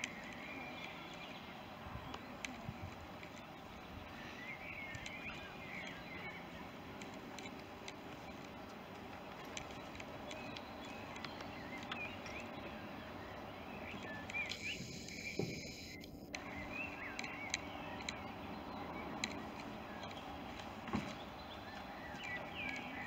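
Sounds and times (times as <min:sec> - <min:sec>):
sharp clicks: 0:00.0 - 0:03.7, 0:04.6 - 0:23.0
birds chirping: 0:00.0 - 0:23.0.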